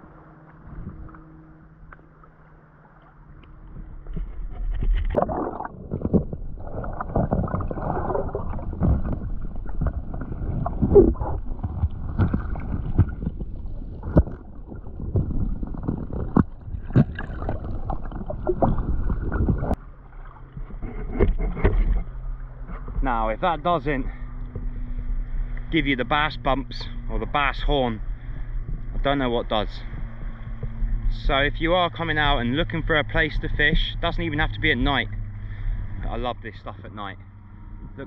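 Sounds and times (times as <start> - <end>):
water sloshing underwater: 0.0 - 38.0.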